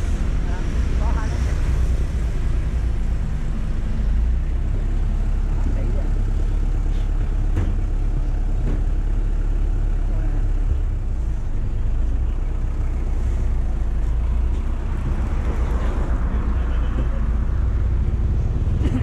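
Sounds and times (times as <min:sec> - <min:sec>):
street traffic noise: 0:00.0 - 0:19.0
vehicle rumble: 0:00.0 - 0:19.0.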